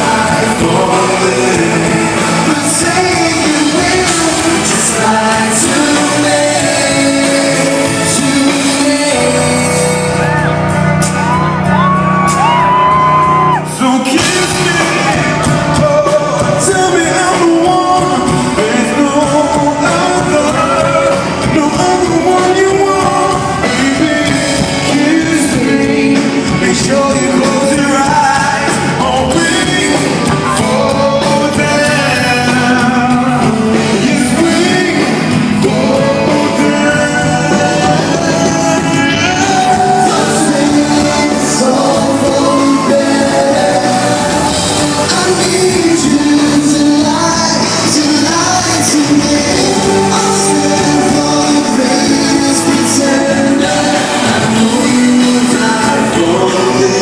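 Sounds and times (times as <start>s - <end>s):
male vocal group singing: 0.0s - 10.5s, 13.7s - 57.0s
live band accompaniment: 0.0s - 57.0s.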